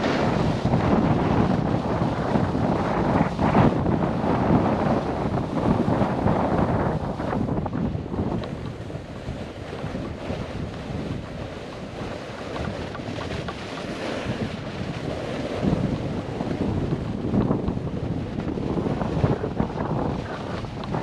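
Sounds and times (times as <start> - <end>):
snowboard scraping through snow: 0.0 - 7.4, 9.8 - 17.6, 18.5 - 21.0
wind buffeting microphone: 0.0 - 21.0.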